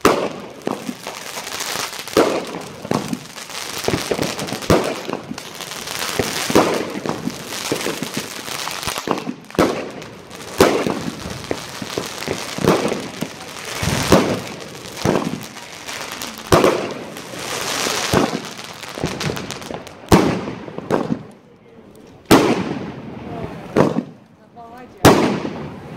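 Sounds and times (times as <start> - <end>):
firework bangs: 0.0 - 21.4, 22.3 - 24.2, 25.0 - 25.9
crackling firework stars: 0.0 - 25.9.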